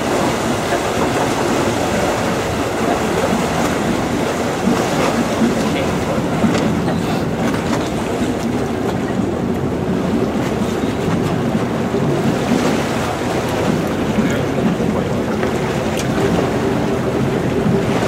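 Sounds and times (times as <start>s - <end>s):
boat engine rumble: 0.0s - 18.0s
water wash: 0.0s - 18.0s.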